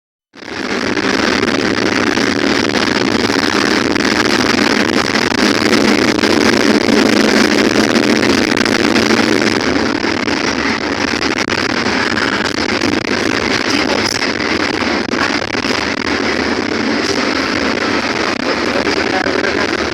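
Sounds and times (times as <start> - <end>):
water fountain splashing: 0.4 - 19.9.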